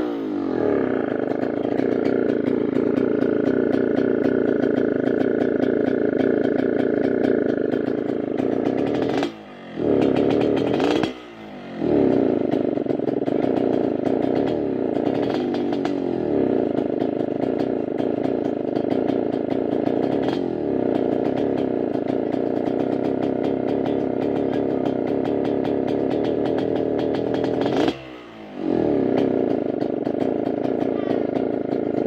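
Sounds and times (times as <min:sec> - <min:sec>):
two-stroke motorcycle engine rasping: 0:00.0 - 0:32.0.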